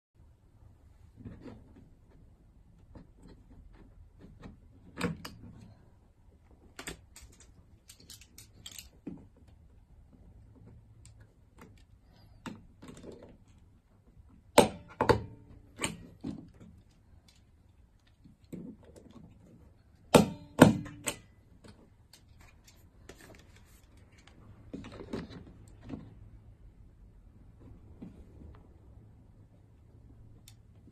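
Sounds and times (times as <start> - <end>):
plastic handling sounds: 0.9 - 26.8.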